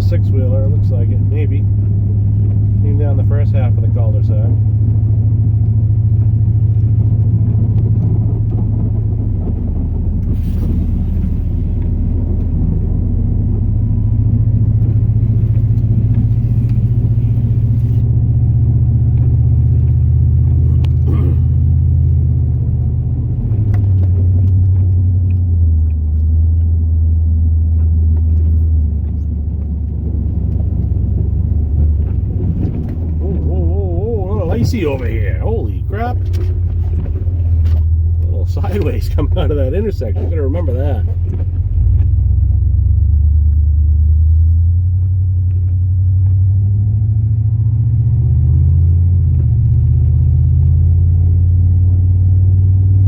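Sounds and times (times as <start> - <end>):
truck engine rumbling under load: 0.0 - 53.0.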